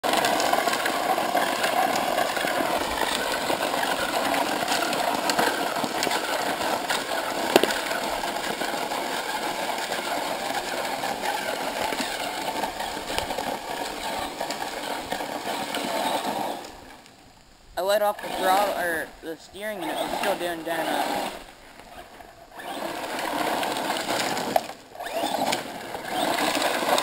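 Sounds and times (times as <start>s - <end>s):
tyre and chassis rattle: 0.0s - 17.0s, 19.8s - 27.0s
rc truck motor whirring: 0.0s - 17.1s, 18.1s - 19.1s, 19.8s - 27.0s.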